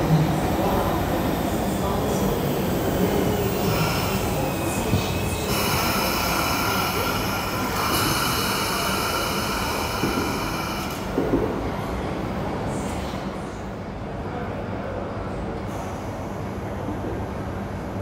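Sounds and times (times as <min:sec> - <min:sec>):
rumble of train wheels: 0:00.0 - 0:18.0.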